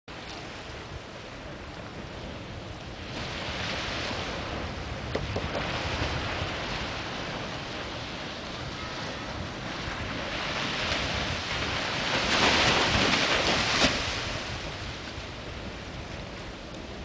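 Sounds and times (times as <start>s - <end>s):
small waves washing in shallows: 0.1s - 17.0s
wind buffeting microphone: 0.1s - 17.0s.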